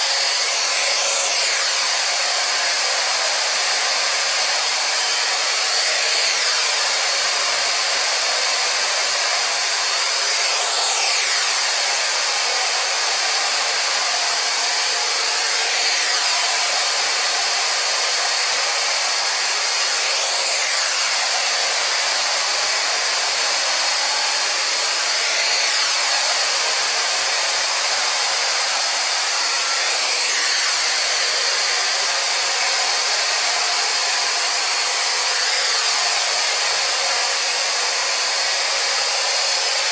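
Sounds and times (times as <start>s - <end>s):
robot vacuum cleaner whirring: 0.0s - 39.9s.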